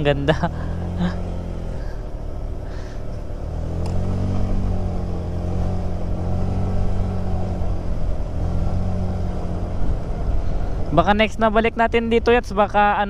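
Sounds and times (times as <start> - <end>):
scooter engine running: 0.0 - 11.0
road and wind noise: 0.0 - 13.0.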